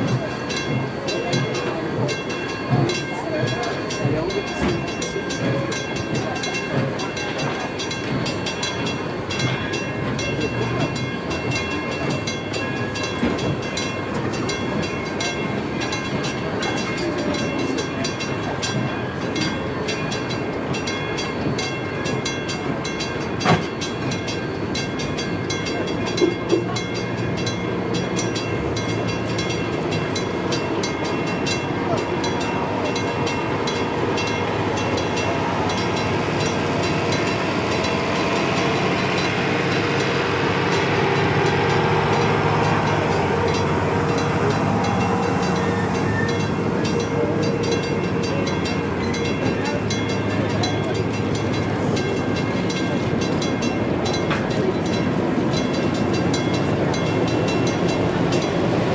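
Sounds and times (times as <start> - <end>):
train wheels rattling: 0.0 - 58.9.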